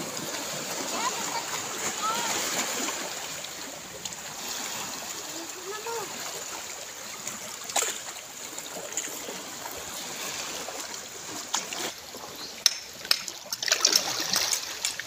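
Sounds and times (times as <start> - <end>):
seawater lapping around rocks: 0.0 - 15.0
splashes from wading: 0.0 - 15.0.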